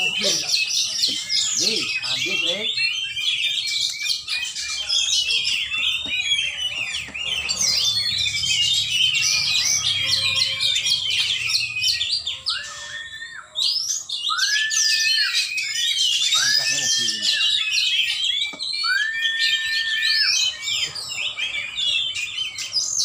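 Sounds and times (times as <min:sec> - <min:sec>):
bird singing chirps and trills: 0:00.0 - 0:23.0
low whistled bird notes: 0:00.0 - 0:23.0.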